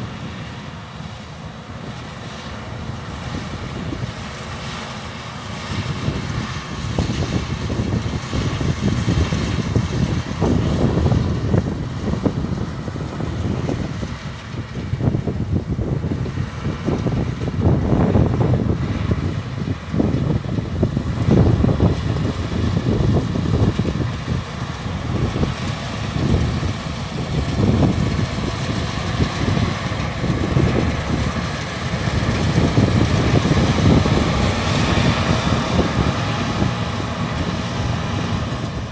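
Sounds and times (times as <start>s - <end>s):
combine harvester engine running: 0.0s - 38.9s
wind noise on microphone: 2.7s - 38.9s.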